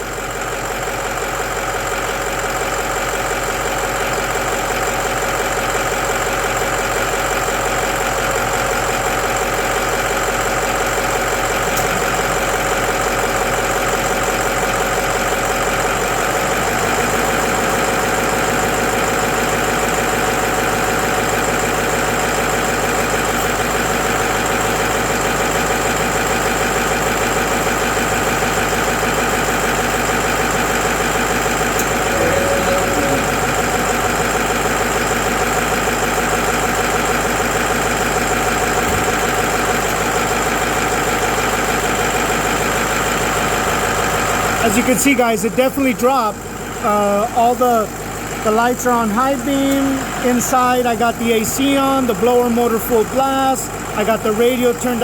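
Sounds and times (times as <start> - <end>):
diesel engine idling with clatter: 0.0 - 55.0.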